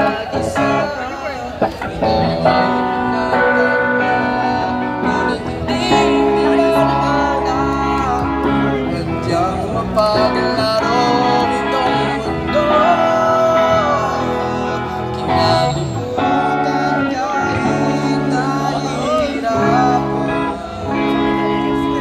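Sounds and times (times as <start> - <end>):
guitar: 0.0 - 22.0
person singing: 0.0 - 22.0.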